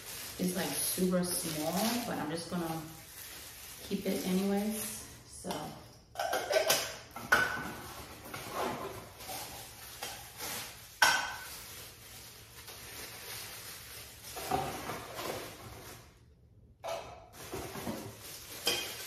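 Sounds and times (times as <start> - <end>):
rustling packaging: 0.0 - 5.1, 7.2 - 16.2, 17.3 - 19.0.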